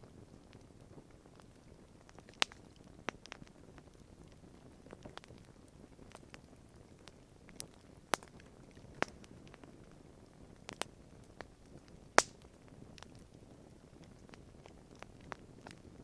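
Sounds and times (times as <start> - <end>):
campfire crackling and popping: 0.0 - 16.0
faint low hiss: 0.0 - 16.0.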